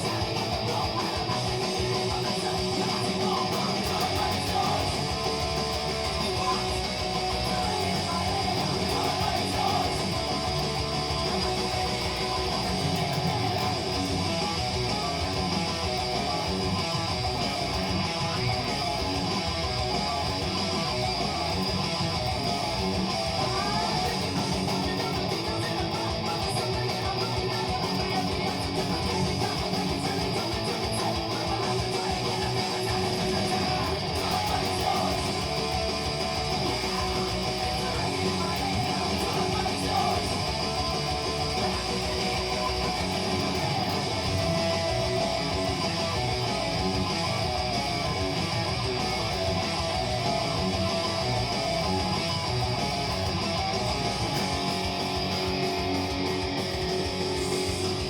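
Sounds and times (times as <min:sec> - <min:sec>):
electric guitar metal riffs: 0:00.0 - 0:58.0.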